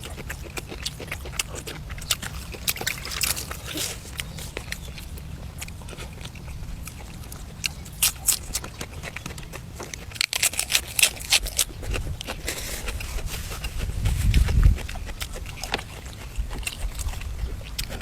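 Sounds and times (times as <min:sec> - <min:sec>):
chewing and lip-smacking: 0:00.0 - 0:18.0
steady low rumble: 0:00.0 - 0:18.0.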